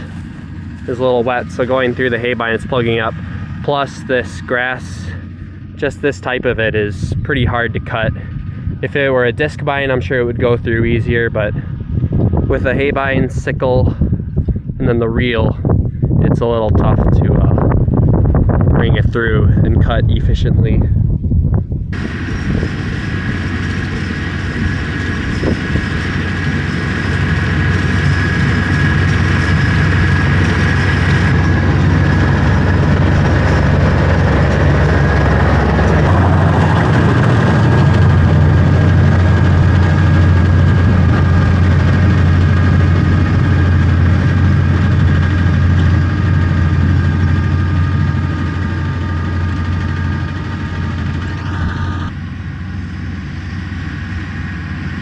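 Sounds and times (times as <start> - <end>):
steady whine: 0.0 - 55.0
tractor diesel engine under load: 0.0 - 55.0.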